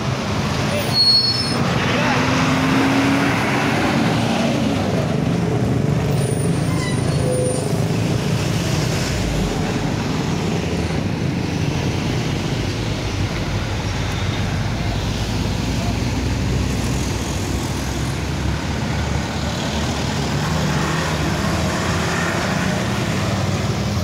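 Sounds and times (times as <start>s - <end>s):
heavy road traffic passing: 0.0s - 24.0s
motorbike engines: 0.0s - 24.0s
truck engine rumble: 1.6s - 24.0s.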